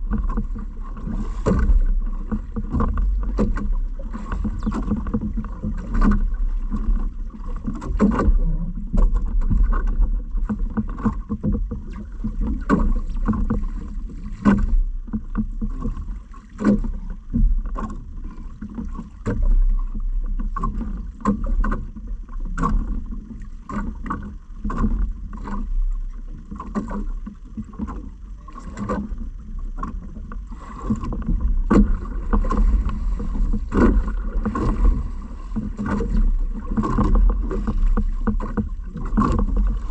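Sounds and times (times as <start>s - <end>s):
steady low rumble: 0.0s - 16.3s, 21.8s - 39.9s
knocks and splashes against hull: 0.0s - 39.9s.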